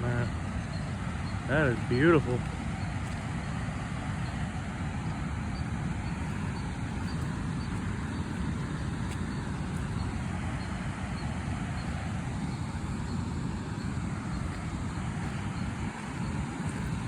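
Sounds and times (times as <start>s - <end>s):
fast-flowing river water rushing: 0.3s - 17.0s.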